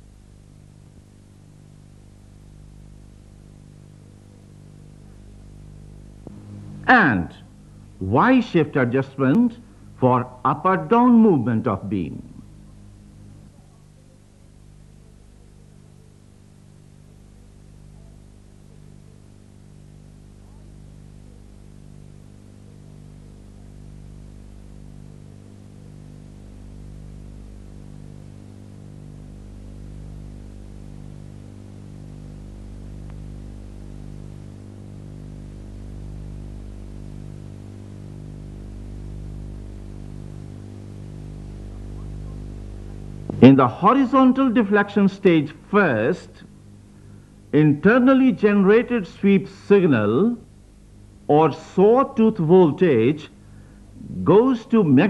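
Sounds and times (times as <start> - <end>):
low electronic hum: 0.0 - 55.0.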